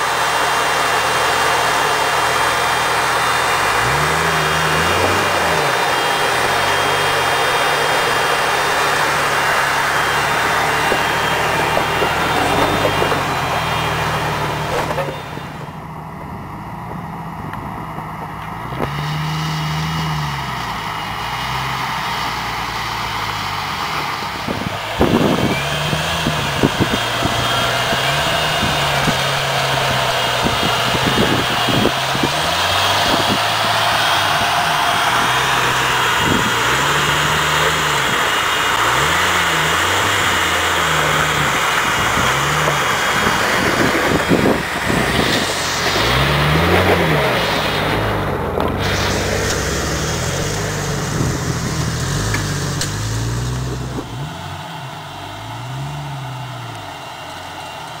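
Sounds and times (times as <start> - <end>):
engine revving at low speed: 0.0 - 58.0.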